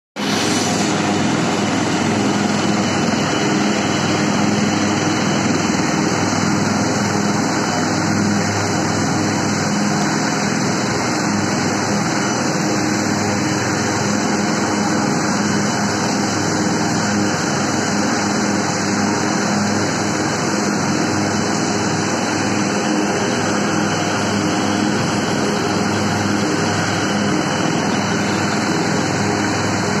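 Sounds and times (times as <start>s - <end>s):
helicopter turbines and rotors: 0.2s - 30.0s.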